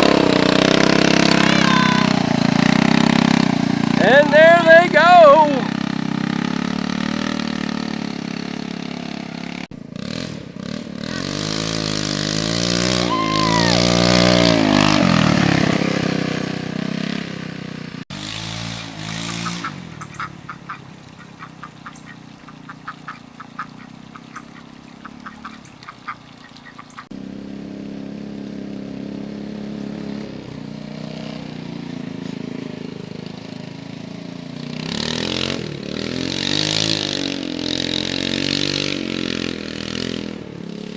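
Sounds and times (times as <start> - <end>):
engine revving: 0.0 - 40.9
steady engine hum: 0.0 - 40.9.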